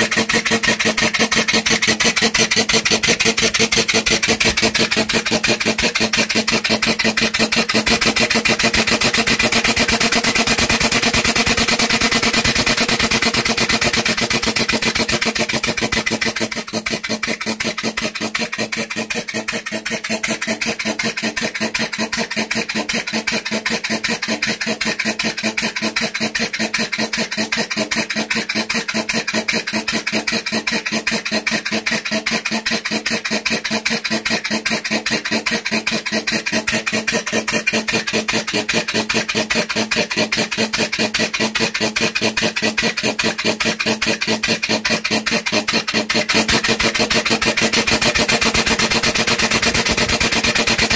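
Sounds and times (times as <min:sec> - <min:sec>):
air-powered engine puffing and clatter: 0:00.0 - 0:50.9.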